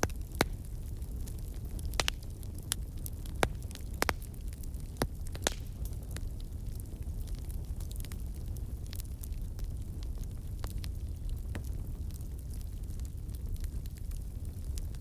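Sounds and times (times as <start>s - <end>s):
burning wood crackling and popping: 0.0s - 15.0s
campfire flames rumbling: 0.0s - 15.0s.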